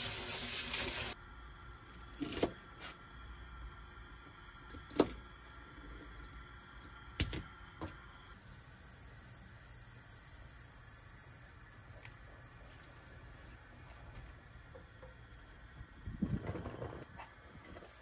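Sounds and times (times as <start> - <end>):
liquid simmering with soft hiss: 0.0 - 18.0.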